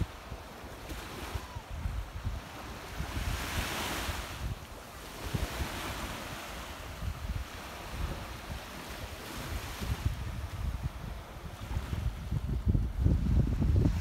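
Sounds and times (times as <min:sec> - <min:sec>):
surf breaking on shore: 0:00.0 - 0:14.0
wind buffeting microphone: 0:00.0 - 0:14.0.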